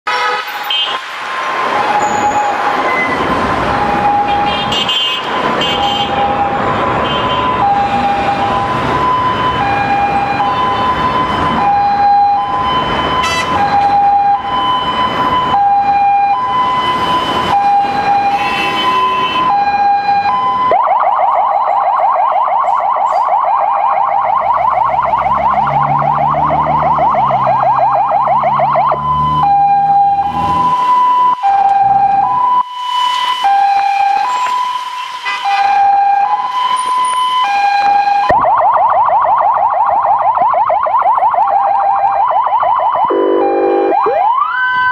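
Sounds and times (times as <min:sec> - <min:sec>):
ambulance siren wailing: 0:00.1 - 0:44.9
road and wind noise: 0:00.1 - 0:44.9.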